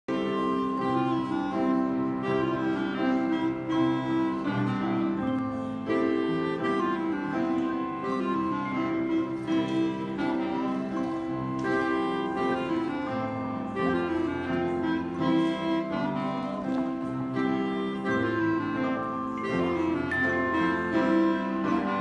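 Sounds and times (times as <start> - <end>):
handbell choir playing: 0.3 - 17.2, 18.0 - 22.0.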